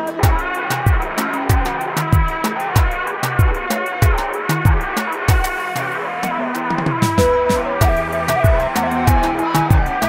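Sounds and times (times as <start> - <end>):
electronic music with bass drum: 0.0 - 10.0.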